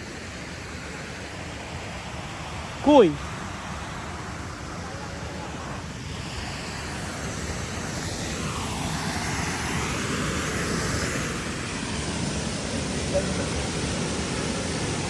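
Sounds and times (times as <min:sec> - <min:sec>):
waterfall rushing: 0:01.4 - 0:09.2, 0:09.9 - 0:15.0.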